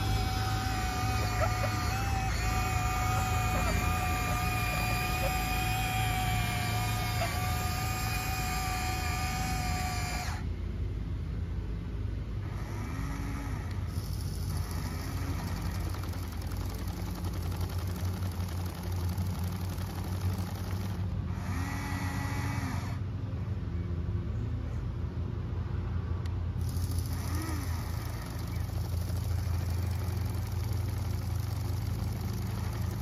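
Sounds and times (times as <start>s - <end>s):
electric motor whining: 0.0s - 10.5s, 12.5s - 23.0s, 26.6s - 33.0s
steady low hum: 0.0s - 33.0s.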